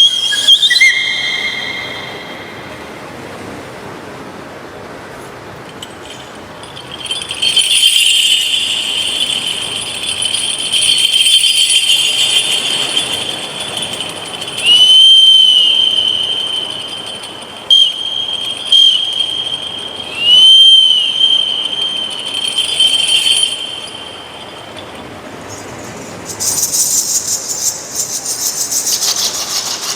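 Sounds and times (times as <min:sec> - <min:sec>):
high squealing train whistle: 0:00.0 - 0:03.2, 0:05.8 - 0:27.7.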